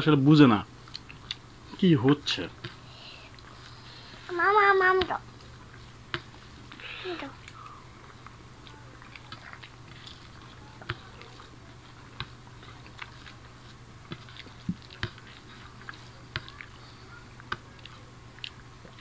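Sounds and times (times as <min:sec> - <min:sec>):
faint steady hum: 0:00.0 - 0:19.0
people chewing food: 0:00.7 - 0:19.0.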